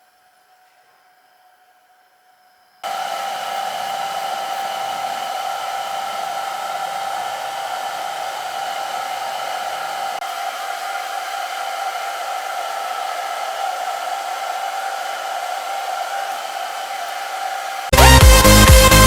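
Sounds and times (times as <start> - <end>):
hair dryer motor whining: 2.8 - 19.0.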